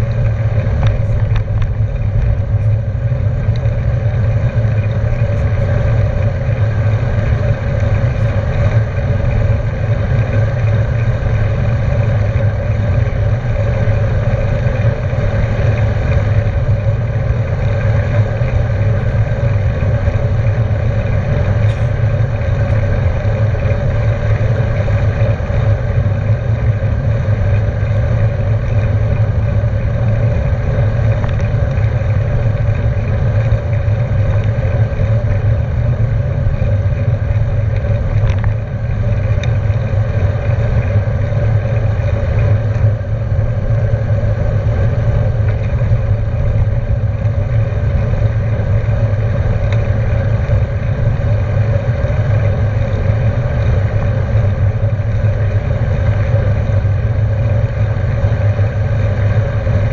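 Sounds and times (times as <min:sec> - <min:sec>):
bicycle tyres on wet asphalt: 0:00.0 - 0:59.9
wind on microphone: 0:00.0 - 0:59.9.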